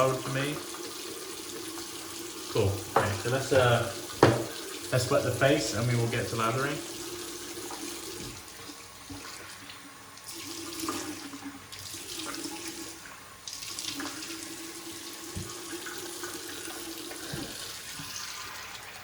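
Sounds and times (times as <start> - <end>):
water running from tap: 0.0 - 19.0.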